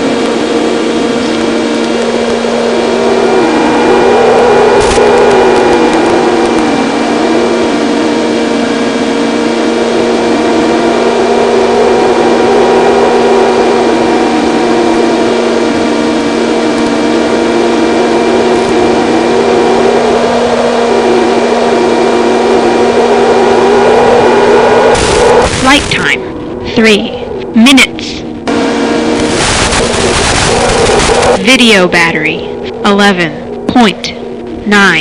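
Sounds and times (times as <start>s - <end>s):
electric motor propeller hum: 0.0s - 35.0s.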